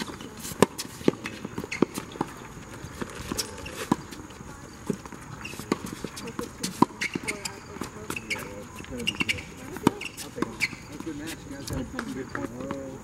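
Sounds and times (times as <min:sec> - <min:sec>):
tennis balls struck and bouncing: 0:00.0 - 0:13.0.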